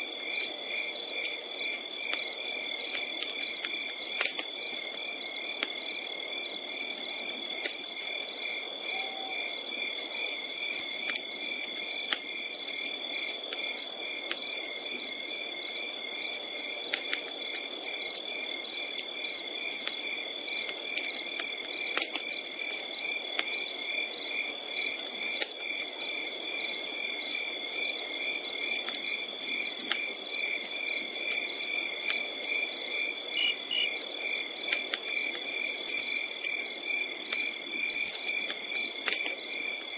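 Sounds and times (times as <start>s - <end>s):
campfire crackling: 0.0s - 39.9s
crickets chirping: 0.0s - 39.9s
insect drone: 0.0s - 39.9s.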